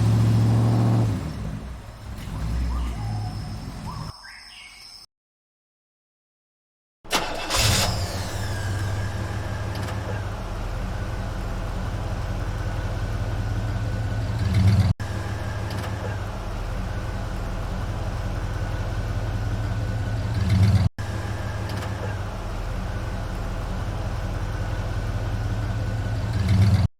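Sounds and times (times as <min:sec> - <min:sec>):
low engine-like drone: 0:00.0 - 0:04.1, 0:07.7 - 0:26.9.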